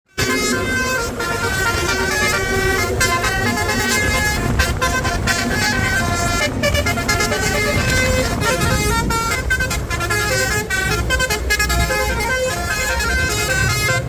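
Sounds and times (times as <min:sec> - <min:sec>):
bus musical horn melody: 0:00.1 - 0:14.0
steady low rumble: 0:00.1 - 0:14.0.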